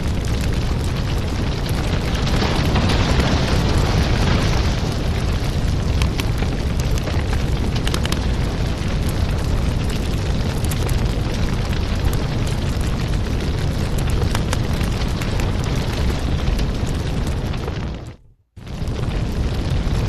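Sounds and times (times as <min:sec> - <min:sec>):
fire crackling in a fireplace: 0:00.0 - 0:20.0.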